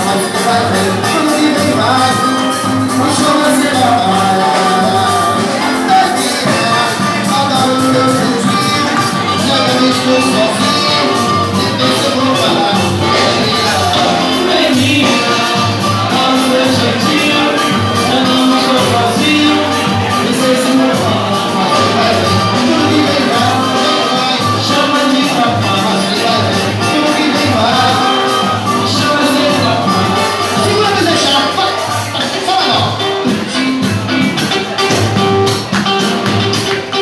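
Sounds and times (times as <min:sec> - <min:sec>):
live band music: 0:00.0 - 0:37.0
steady percussion beat: 0:00.0 - 0:37.0.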